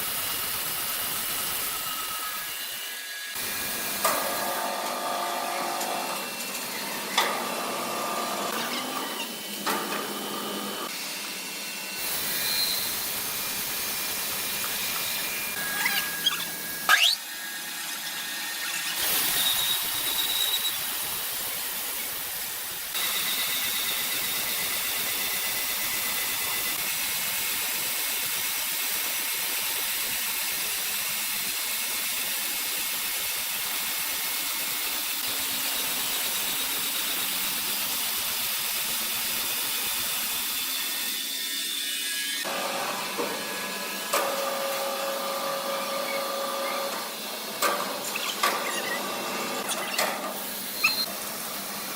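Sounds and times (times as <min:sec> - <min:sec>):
woodworking machinery hissing: 0:00.0 - 0:51.9.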